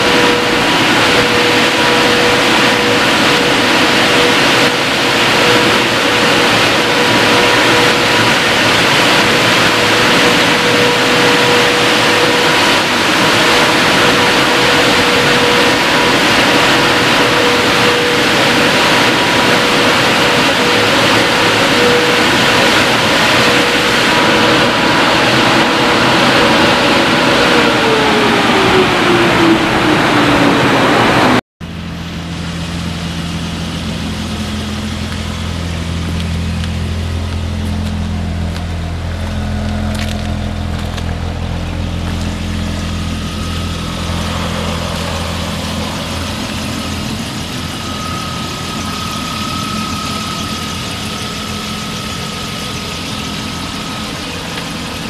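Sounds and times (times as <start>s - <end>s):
blower dryer fans whining: 0.0s - 55.0s.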